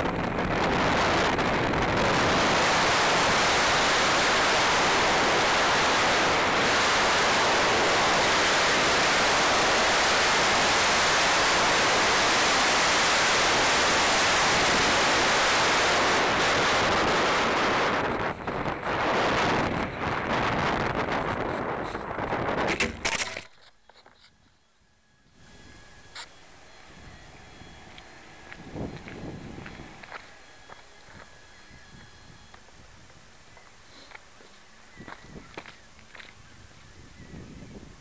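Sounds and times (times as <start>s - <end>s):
wind buffeting microphone: 0.0s - 23.2s, 25.3s - 38.0s.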